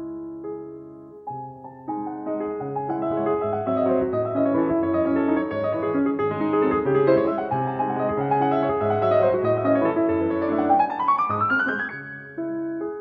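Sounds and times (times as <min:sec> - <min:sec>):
flowing piano piece: 0:00.0 - 0:13.0.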